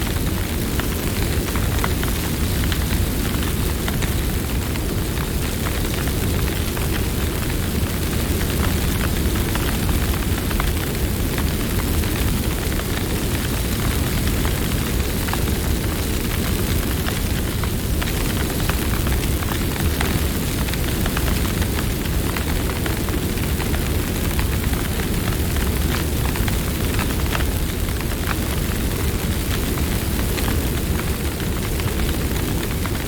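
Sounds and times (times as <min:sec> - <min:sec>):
campfire flames rumbling: 0:00.0 - 0:33.0
wood crackling and popping: 0:00.0 - 0:33.0.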